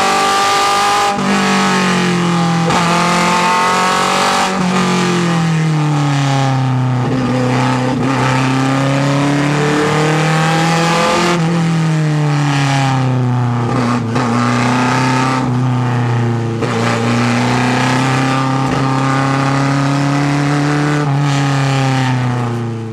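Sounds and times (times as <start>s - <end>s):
race engine revving: 0.0s - 22.6s.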